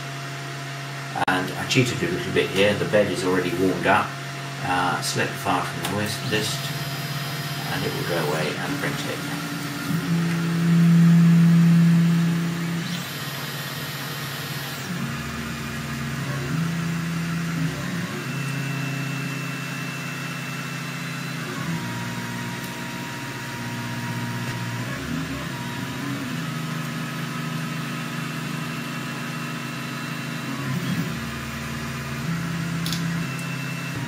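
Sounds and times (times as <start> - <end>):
stepper motors whining: 0.0 - 34.0.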